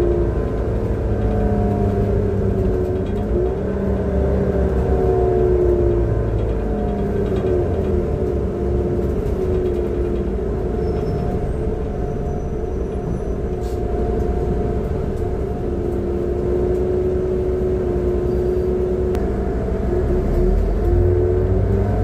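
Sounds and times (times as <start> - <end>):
bus engine rumble with whine: 0.0 - 22.0.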